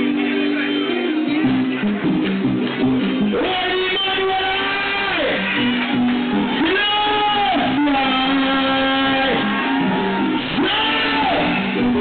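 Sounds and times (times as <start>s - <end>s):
electric guitar sliding notes: 0.0s - 12.0s
live band playing: 0.0s - 12.0s
steady bass line: 0.0s - 12.0s.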